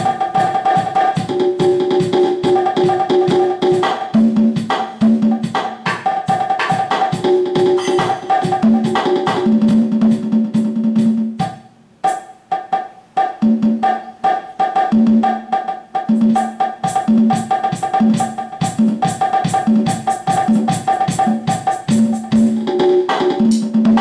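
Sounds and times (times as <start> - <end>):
electronic drum kit playing: 0.0 - 24.0.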